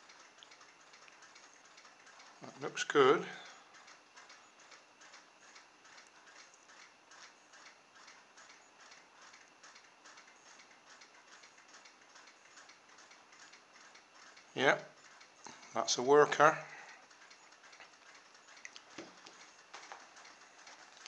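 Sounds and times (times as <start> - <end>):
faint even ticking: 0.0 - 21.0.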